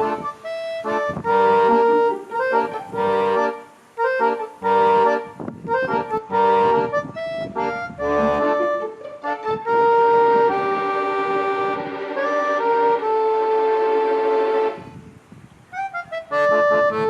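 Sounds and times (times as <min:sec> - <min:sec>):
reedy melody: 0:00.0 - 0:15.1, 0:15.7 - 0:17.0.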